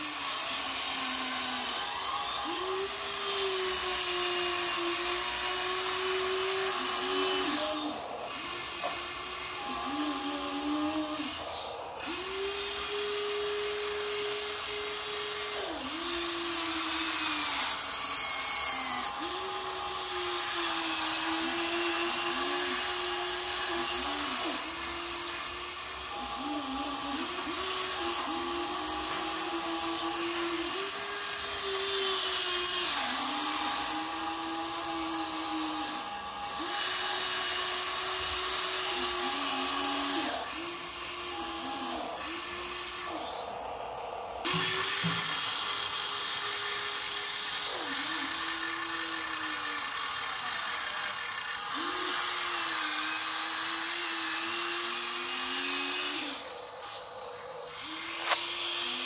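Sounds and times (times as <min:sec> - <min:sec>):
toy electric motor whining: 0:00.0 - 0:59.0.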